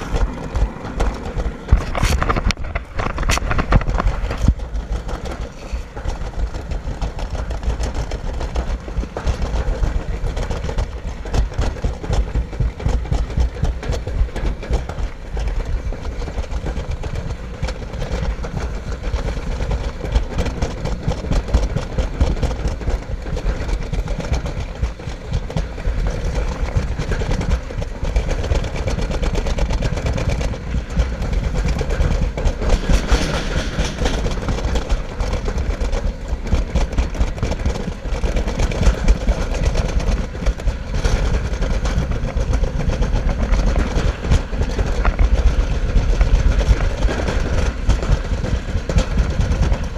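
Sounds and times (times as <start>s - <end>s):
sled rumbling on metal track: 0.0s - 49.9s.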